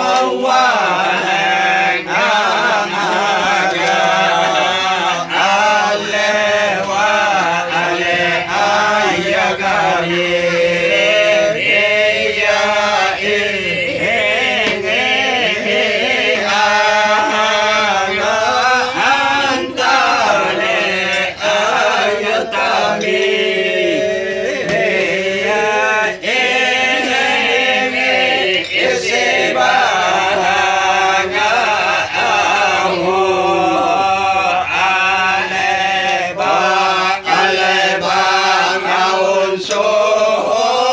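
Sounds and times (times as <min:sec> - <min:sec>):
group chanting devotional song: 0:00.0 - 0:40.9.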